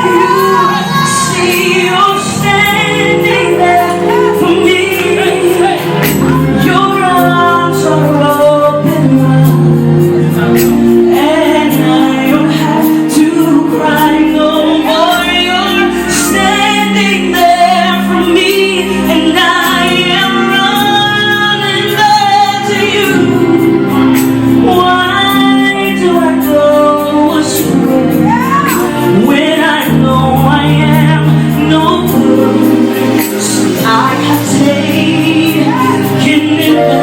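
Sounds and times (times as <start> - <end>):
woman singing gospel: 0.0 - 37.0.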